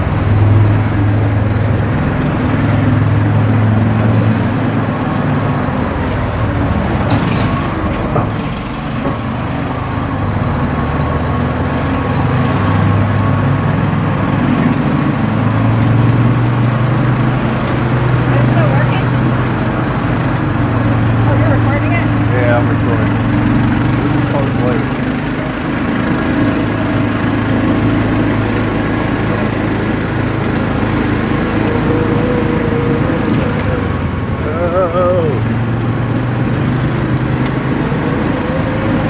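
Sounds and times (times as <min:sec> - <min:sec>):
atv engine droning: 0:00.0 - 0:39.0
rumble of the ride: 0:00.0 - 0:39.0.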